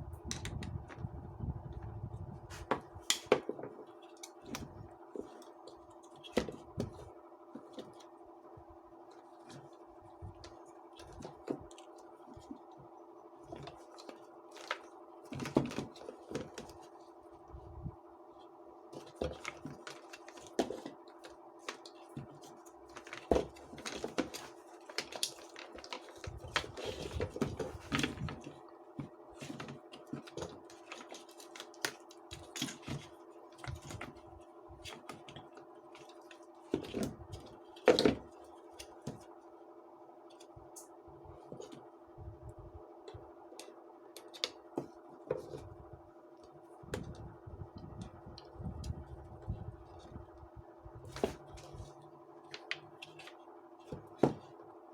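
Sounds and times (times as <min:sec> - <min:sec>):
faint hum: 0:00.0 - 0:54.9.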